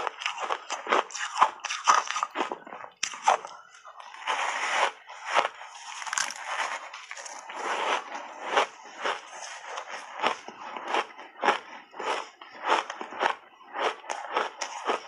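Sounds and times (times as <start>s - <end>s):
ice crunching between teeth: 0.0s - 15.0s.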